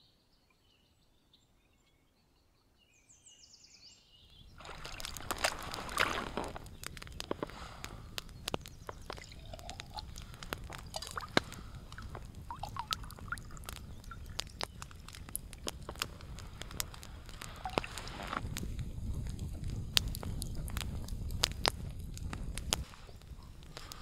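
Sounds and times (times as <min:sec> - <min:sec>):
campfire crackling and popping: 0:04.2 - 0:24.0
low steady rumble: 0:04.5 - 0:24.0.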